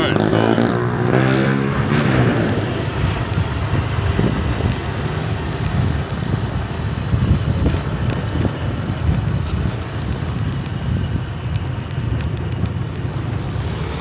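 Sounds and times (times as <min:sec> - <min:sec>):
motorbike engine and road noise: 0:00.0 - 0:14.0
wind rumble on microphone: 0:00.0 - 0:14.0.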